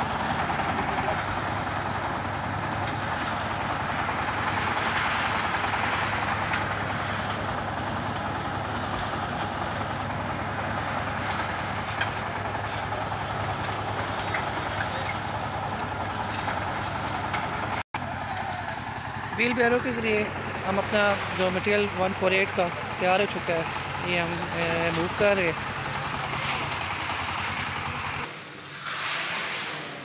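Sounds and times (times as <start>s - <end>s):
concrete mixer running: 0.0s - 28.4s.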